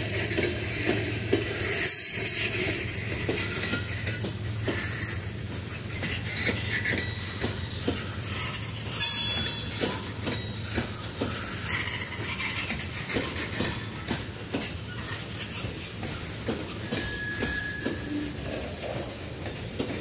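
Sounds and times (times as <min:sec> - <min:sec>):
train rolling rumble: 0:00.0 - 0:20.0
wheels clicking over rail joints: 0:00.0 - 0:20.0.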